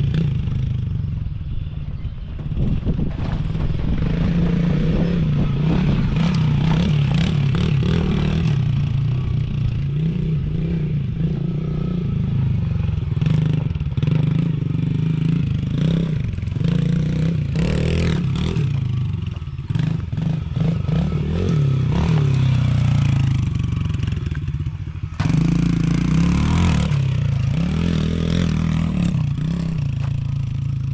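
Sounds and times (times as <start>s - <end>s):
pit bike engine revving: 3.8s - 30.9s.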